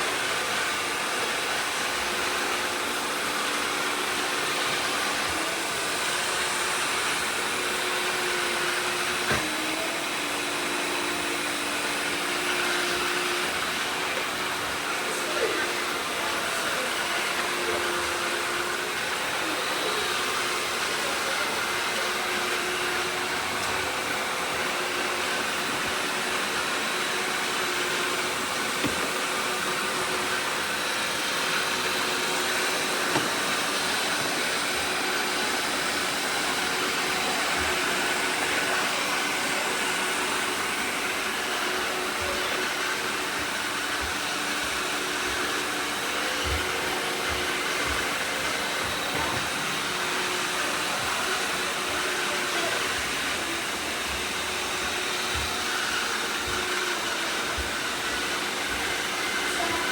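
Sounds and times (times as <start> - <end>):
robot vacuums whirring: 0.0 - 59.9.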